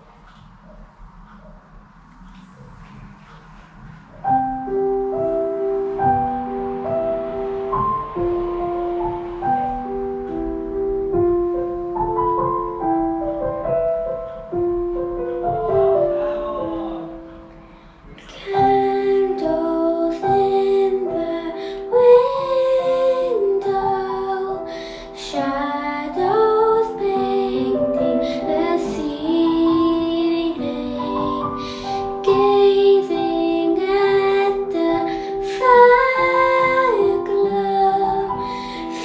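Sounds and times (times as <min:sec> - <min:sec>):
instrumental accompaniment: 0:00.4 - 0:39.0
girl singing slow song: 0:04.2 - 0:39.0.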